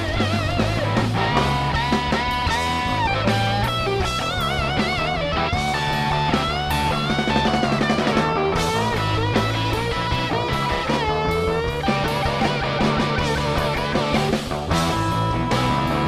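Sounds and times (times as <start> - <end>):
drum kit with cymbals: 0.0 - 16.0
electric bass: 0.0 - 16.0
electric guitar lead with vibrato: 0.0 - 16.0.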